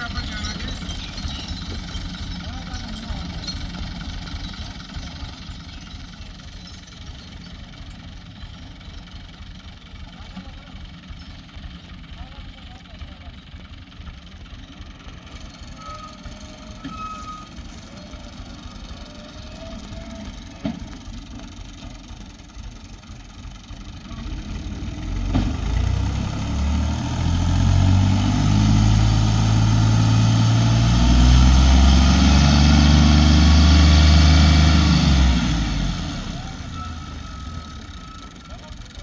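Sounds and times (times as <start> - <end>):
motor engine running: 0.0 - 39.0.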